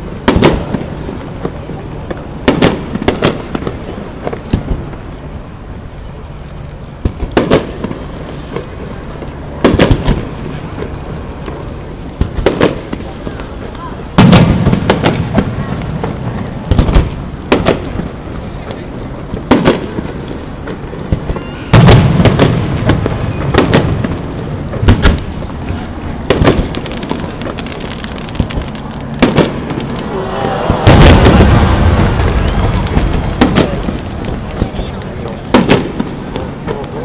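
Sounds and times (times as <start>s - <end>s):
firework shells booming: 0.0s - 5.2s, 6.9s - 37.0s.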